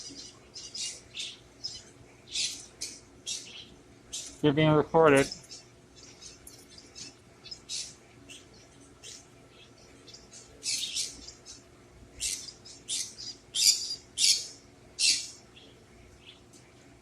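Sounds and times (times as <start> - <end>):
bird chirping: 0.0 - 4.4, 5.2 - 16.5.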